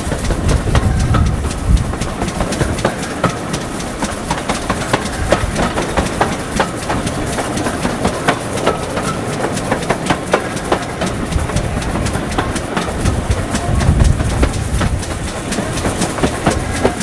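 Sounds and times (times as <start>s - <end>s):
wheels clicking over rail joints: 0.0s - 17.0s
wind rushing: 0.0s - 17.0s.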